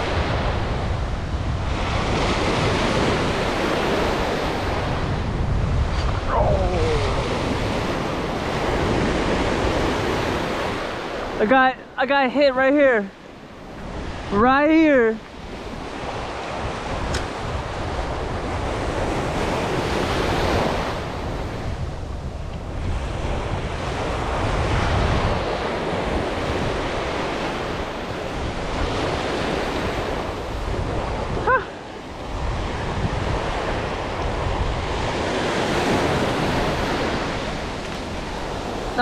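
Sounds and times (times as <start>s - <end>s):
waves washing up a beach: 0.0s - 39.0s
wind buffeting microphone: 0.0s - 39.0s.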